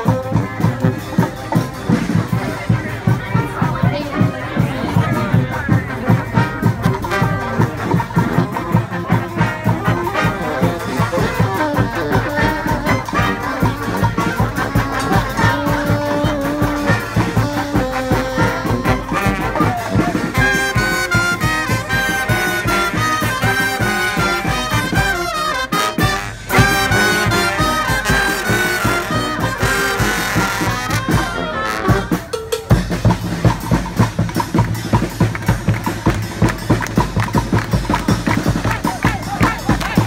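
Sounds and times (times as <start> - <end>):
brass band playing: 0.0 - 40.0
drums beating: 0.0 - 40.0.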